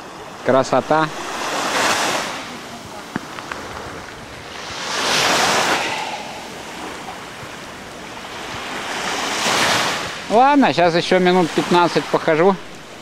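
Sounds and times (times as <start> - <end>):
small waves washing up beach: 0.0 - 13.0.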